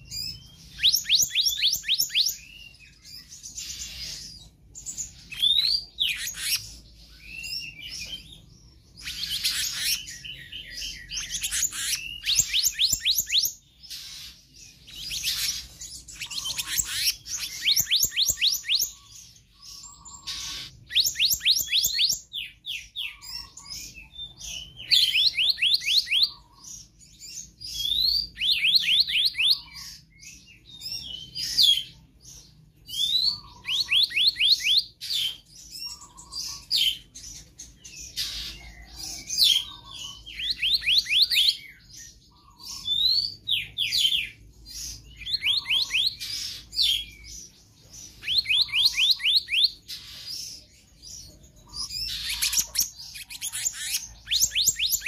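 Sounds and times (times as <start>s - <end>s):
bird singing ringing notes: 0.0s - 55.0s.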